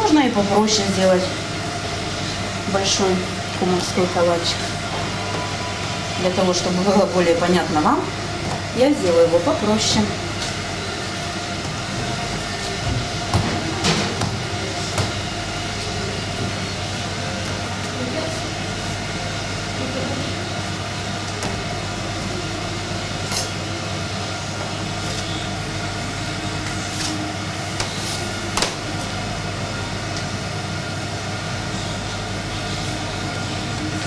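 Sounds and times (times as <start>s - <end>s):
oven fan hum: 0.0s - 34.0s.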